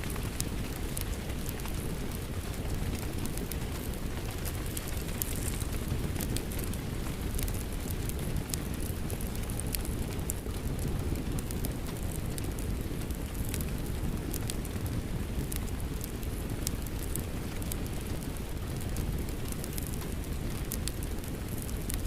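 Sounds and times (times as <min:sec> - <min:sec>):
fireplace crackling: 0:00.0 - 0:22.0
rain: 0:00.0 - 0:22.0.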